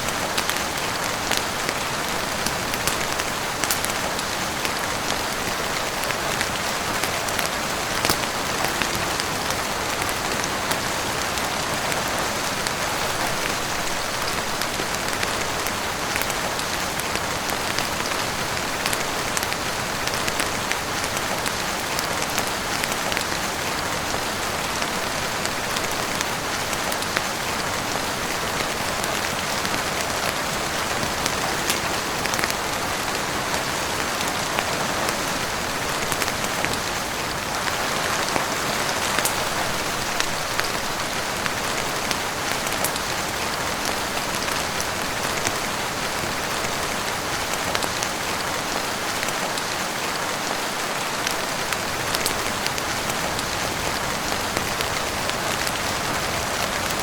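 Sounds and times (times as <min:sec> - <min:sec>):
heavy rain on roof and windows: 0:00.0 - 0:57.0.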